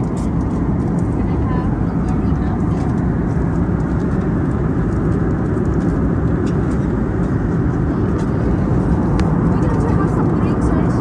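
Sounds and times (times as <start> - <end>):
airplane cabin airflow and engine: 0.0 - 11.0.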